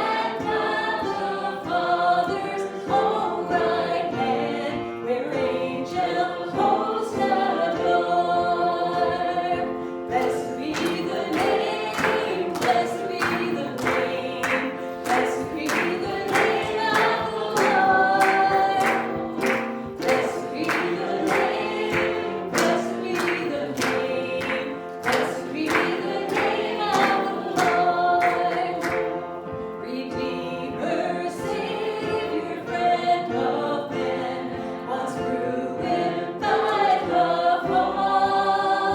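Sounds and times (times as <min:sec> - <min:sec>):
congregation singing a hymn: 0:00.0 - 0:38.9
instrumental accompaniment: 0:00.0 - 0:38.9.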